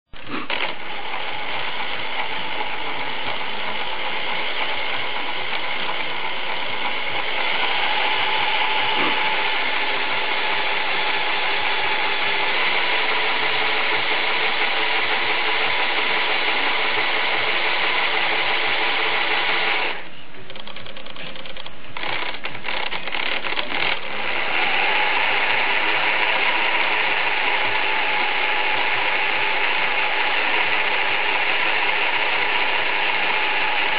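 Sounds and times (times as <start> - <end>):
electric motor whirring: 0.1 - 33.9.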